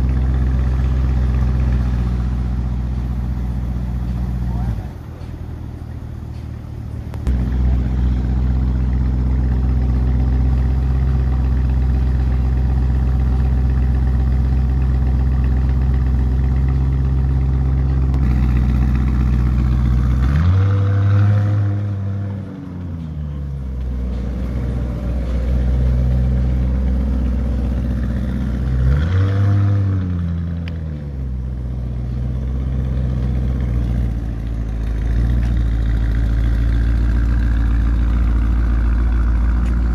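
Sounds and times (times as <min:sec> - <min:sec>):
car engine idling and revving: 0:00.0 - 0:39.9
car pulling away: 0:00.0 - 0:39.9.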